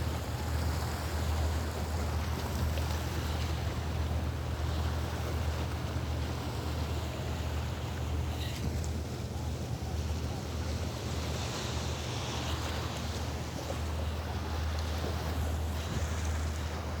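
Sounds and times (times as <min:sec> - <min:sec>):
sea waves: 0:00.0 - 0:17.0.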